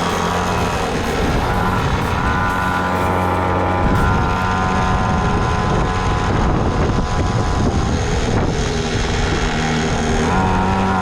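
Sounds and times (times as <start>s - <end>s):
small engine running: 0.0s - 11.0s
wind noise on microphone: 0.0s - 11.0s.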